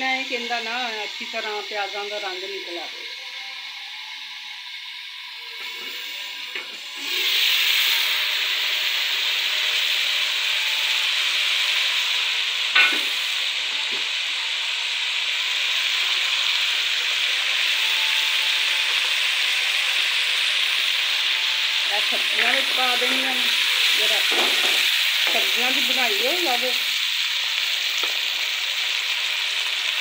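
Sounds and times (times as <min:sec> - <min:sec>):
food sizzling in pan: 0:00.0 - 0:30.0.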